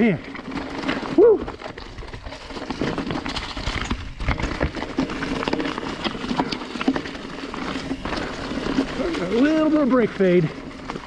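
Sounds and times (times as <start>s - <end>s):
mountain bike rattling: 0.0s - 11.0s
wheels knocking on roots and rocks: 0.0s - 11.0s.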